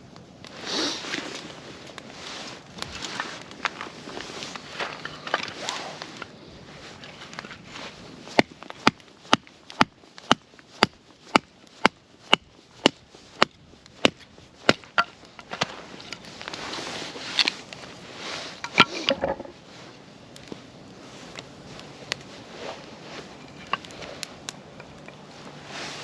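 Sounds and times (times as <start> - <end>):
rustling: 0.5 - 10.8, 14.3 - 26.0.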